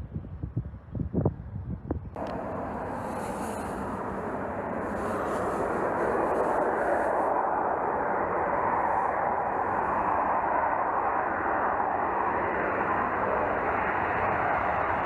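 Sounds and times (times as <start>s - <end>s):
jet engine rushing noise: 2.2s - 15.0s.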